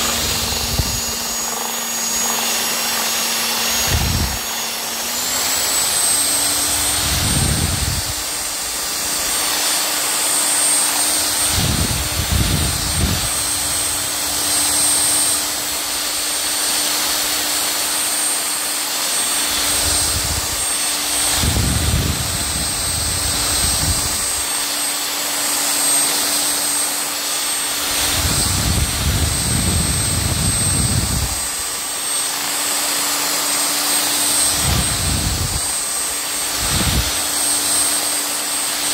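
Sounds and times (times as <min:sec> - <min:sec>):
electric hand mixer whirring: 0:00.0 - 0:38.9.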